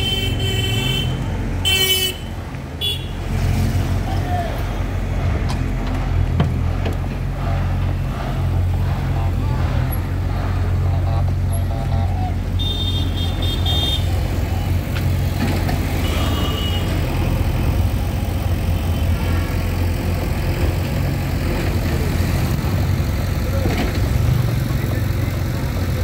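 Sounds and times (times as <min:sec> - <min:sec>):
motorbikes and cars passing: 0:00.0 - 0:26.0.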